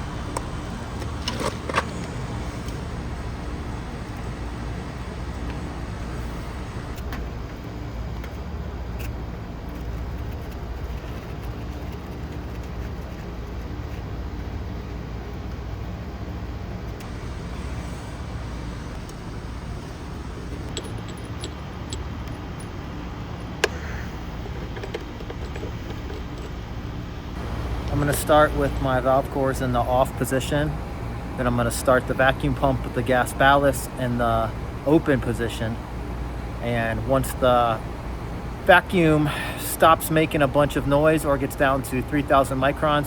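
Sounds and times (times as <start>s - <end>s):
machinery humming: 0.0s - 43.0s
outdoor background noise: 0.0s - 43.0s.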